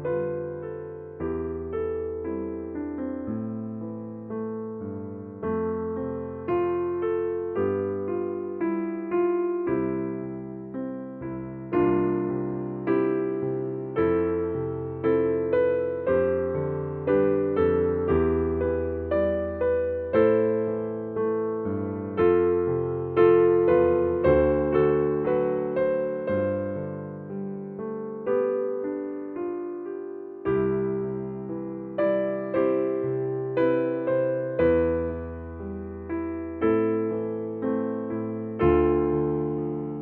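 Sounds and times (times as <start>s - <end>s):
gentle piano music: 0.0s - 40.0s.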